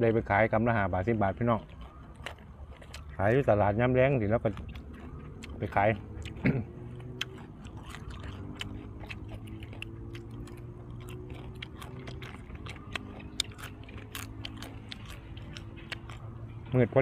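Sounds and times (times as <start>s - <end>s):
man chewing crunchy food: 0.0s - 17.0s.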